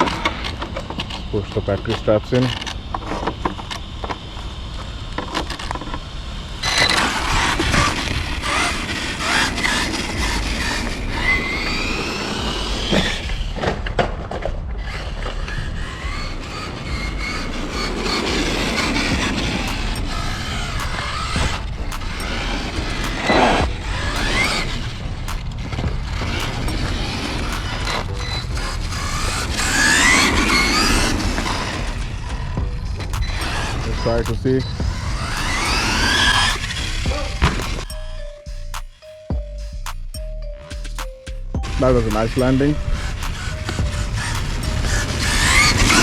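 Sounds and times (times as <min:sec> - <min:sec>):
tyres rumbling on concrete: 0:00.0 - 0:37.9, 0:41.6 - 0:46.0
electric motor whining: 0:00.0 - 0:38.8, 0:41.6 - 0:46.0.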